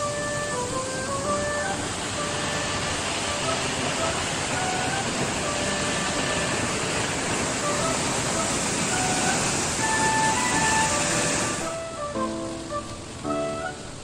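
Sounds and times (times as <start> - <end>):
rush of falling water: 0.0 - 14.0
soft background music: 0.0 - 14.0.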